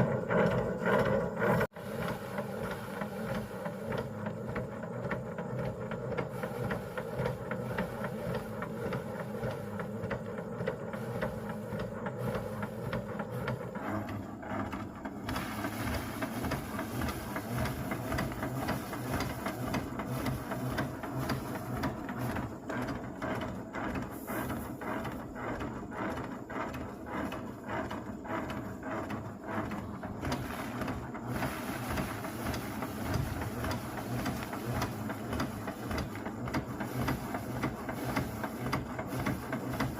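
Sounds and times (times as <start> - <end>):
small machine clattering: 0.0 - 39.9.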